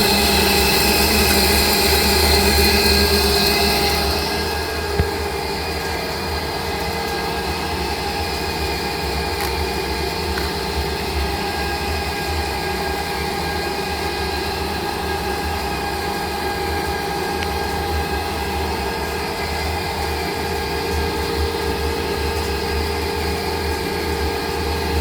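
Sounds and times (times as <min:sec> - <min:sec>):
lathe machining noise: 0:00.0 - 0:25.0.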